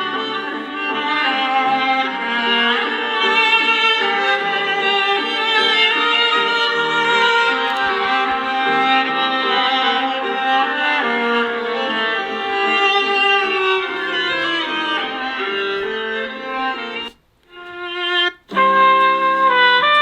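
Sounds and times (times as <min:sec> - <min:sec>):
ringtone with string melody: 0:00.0 - 0:19.5.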